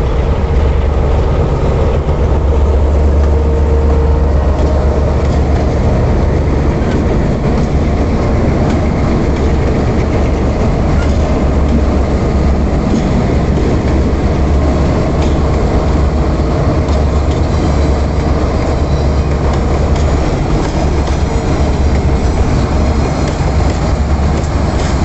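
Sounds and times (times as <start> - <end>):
diesel locomotive engines droning: 0.0 - 25.0
steel wheels rumbling on rail: 0.0 - 25.0
wheels clicking on track: 0.0 - 25.0.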